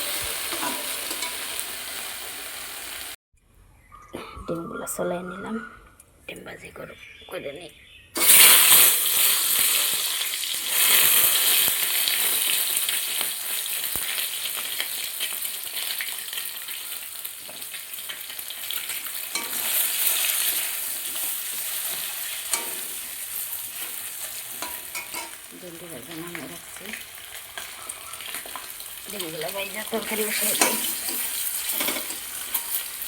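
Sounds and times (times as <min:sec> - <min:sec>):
eggs sizzling in hot oil: 0:00.0 - 0:03.2, 0:08.2 - 0:33.0.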